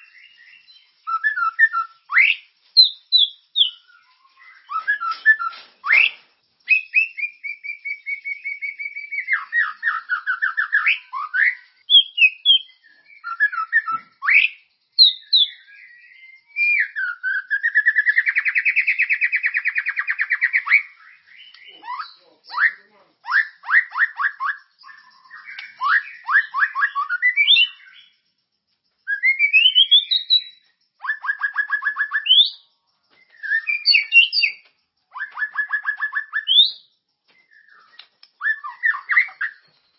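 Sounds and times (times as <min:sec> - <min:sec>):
songbird singing varied whistles: 0:00.0 - 0:39.9.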